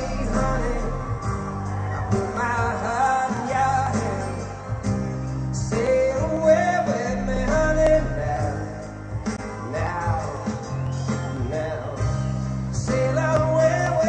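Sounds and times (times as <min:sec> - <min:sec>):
band accompaniment: 0:00.0 - 0:14.0
person singing: 0:00.0 - 0:14.0.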